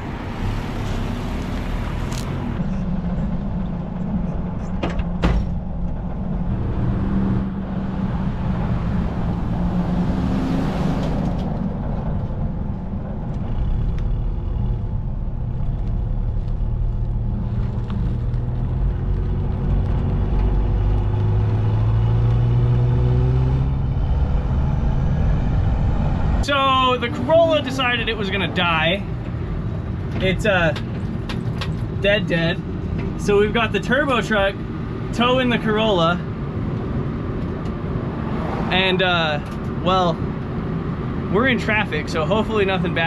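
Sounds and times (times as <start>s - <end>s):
car engine running: 0.0s - 43.0s.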